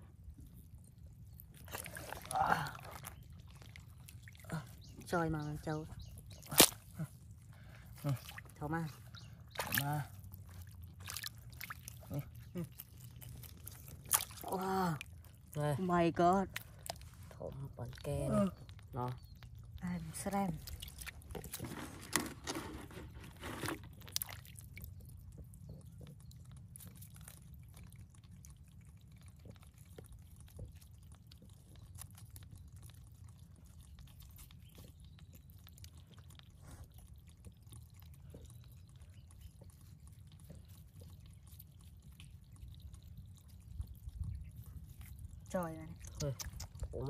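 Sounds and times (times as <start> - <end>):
low steady rumble: 0.0 - 47.0
wet drips and squelches: 0.0 - 47.0.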